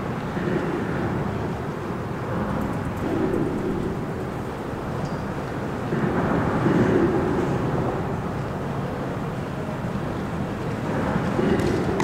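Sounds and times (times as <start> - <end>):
traffic rumble on bridge overhead: 0.0 - 12.0.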